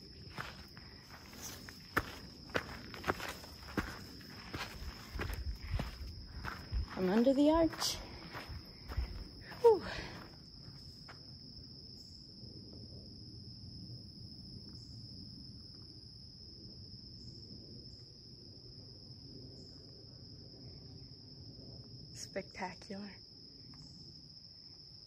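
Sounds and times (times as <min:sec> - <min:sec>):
high-pitched insect trill: 0:00.0 - 0:25.0.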